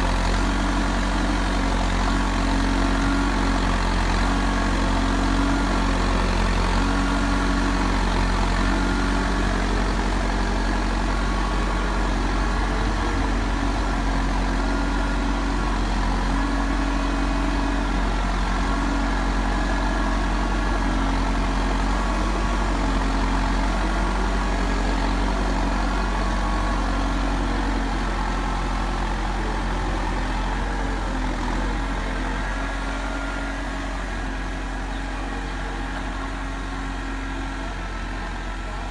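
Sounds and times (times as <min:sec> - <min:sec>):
diesel engine running low: 0:00.0 - 0:38.9.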